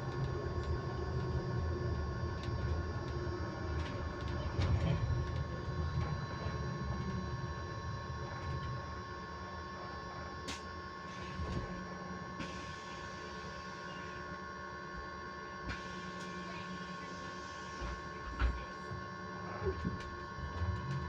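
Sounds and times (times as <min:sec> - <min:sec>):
electric bus whine: 0:00.0 - 0:21.0.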